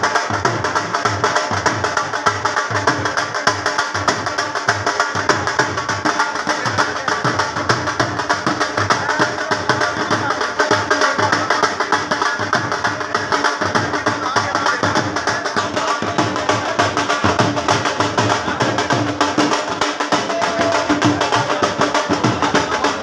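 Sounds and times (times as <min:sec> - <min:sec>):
crowd voices: 0:00.0 - 0:23.0
drums beating fast rhythm: 0:00.0 - 0:23.0.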